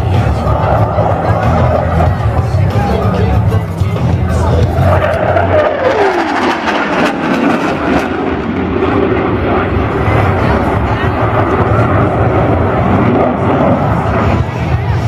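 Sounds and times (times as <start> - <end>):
airplane engine rushing: 0.0 - 15.0.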